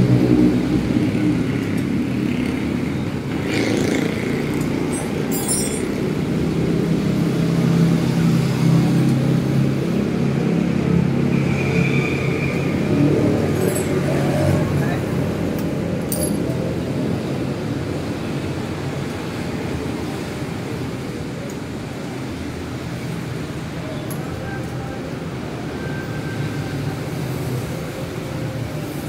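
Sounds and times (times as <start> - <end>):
engine humming steadily: 0.0 - 29.0.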